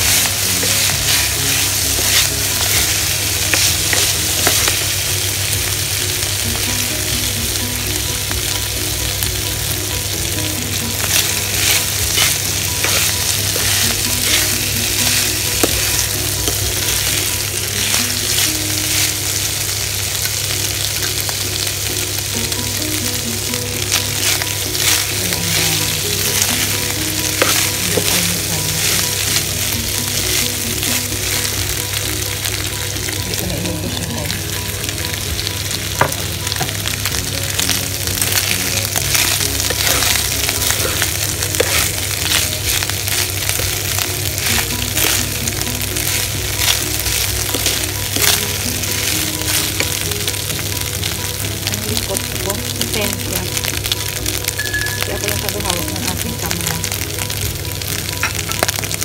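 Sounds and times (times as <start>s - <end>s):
fried rice sizzling in a pan: 0.0s - 59.0s.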